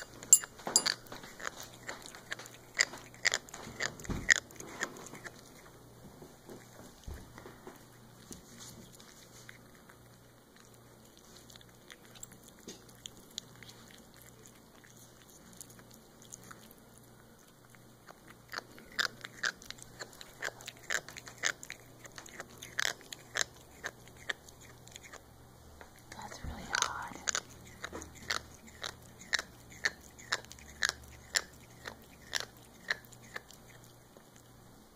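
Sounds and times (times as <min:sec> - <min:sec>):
jaw clicking and crunching: 0:00.0 - 0:34.7.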